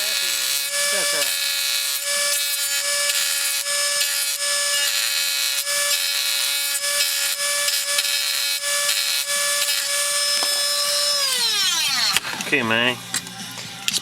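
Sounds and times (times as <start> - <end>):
bit grinding metal rasp: 0.0 - 14.0
rotary tool motor whine: 0.0 - 14.0.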